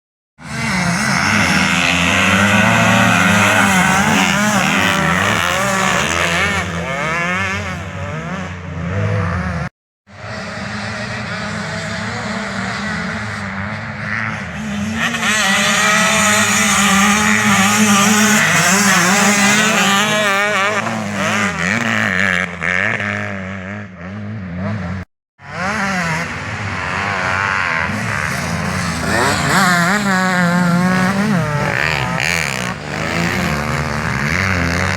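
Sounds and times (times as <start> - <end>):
motocross bike engines revving: 0.4 - 34.9.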